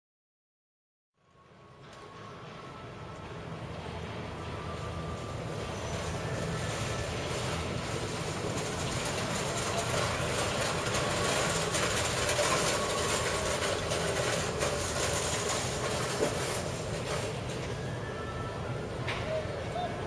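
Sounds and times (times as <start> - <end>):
mechanical rumbling and rattling: 1.8 - 19.8.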